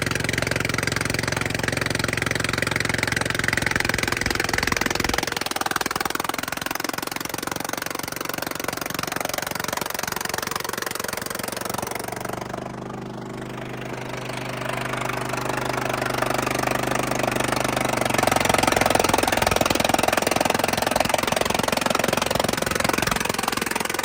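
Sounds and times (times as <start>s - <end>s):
cutting wheel grinding wood: 0.0s - 24.0s
stump grinder engine running: 0.0s - 24.0s.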